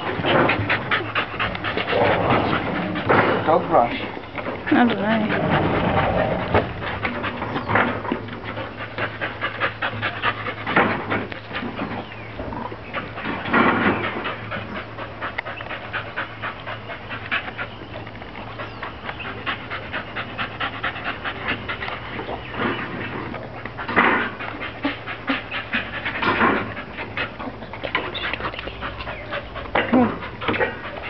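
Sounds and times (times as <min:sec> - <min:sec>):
dog panting: 0:00.0 - 0:31.0.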